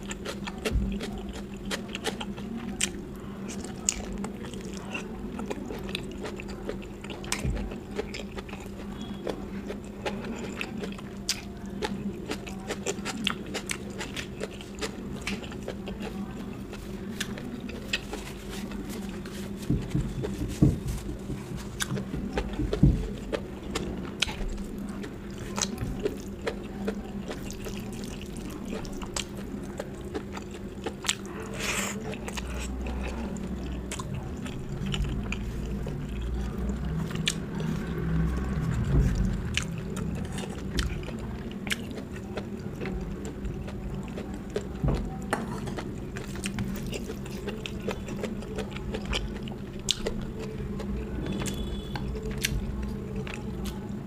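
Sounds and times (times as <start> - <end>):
steady low hum: 0.0 - 54.0
wet chewing: 0.0 - 54.0.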